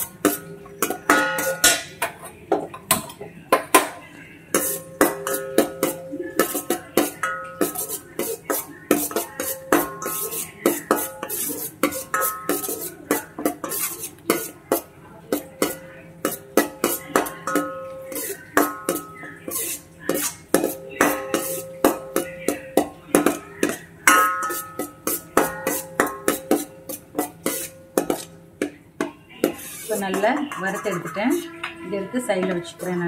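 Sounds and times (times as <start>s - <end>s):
ladle clinking and scraping pan: 0.0s - 33.0s.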